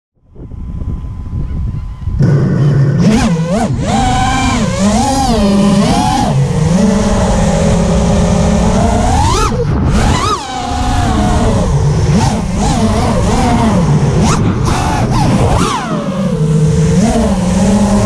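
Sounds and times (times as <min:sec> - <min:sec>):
rushing wind: 0:00.2 - 0:18.0
quadcopter motors buzzing and whining: 0:00.3 - 0:18.0.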